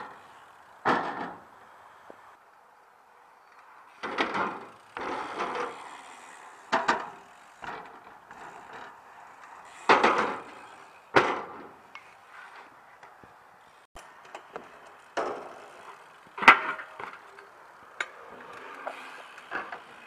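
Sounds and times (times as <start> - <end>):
bike tyres rolling on ramps: 0.0 - 20.0.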